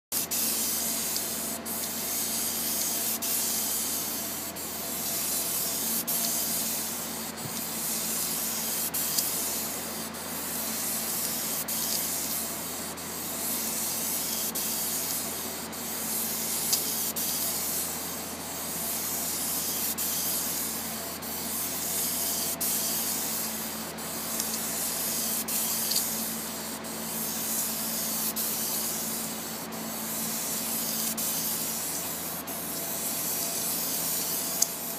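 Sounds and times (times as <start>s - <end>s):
spray foam gun hissing: 0.1s - 34.9s.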